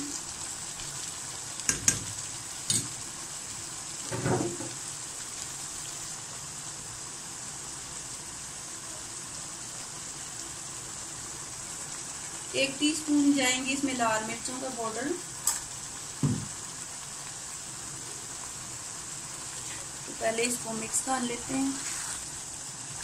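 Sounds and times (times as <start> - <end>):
chicken sizzling in a wok: 0.0 - 23.0.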